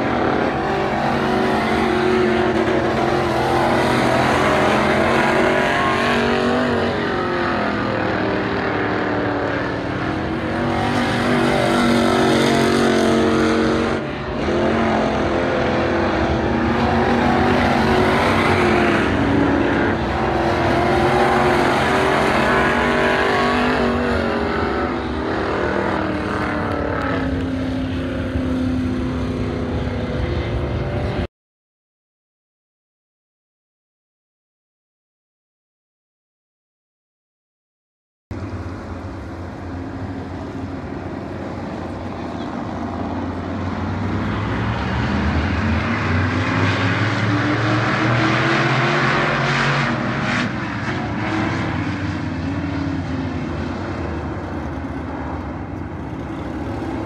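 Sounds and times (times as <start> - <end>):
race car engines passing: 0.0 - 31.3, 38.3 - 57.0.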